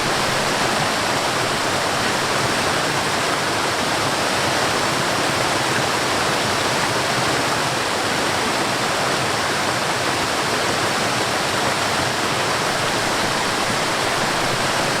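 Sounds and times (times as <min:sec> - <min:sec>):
stream and waterfall rushing: 0:00.0 - 0:15.0.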